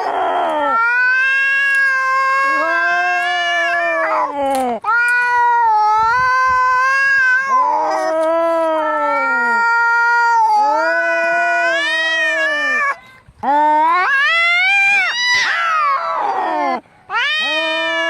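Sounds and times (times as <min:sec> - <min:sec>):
cat yowling: 0:00.0 - 0:13.0, 0:13.8 - 0:18.0.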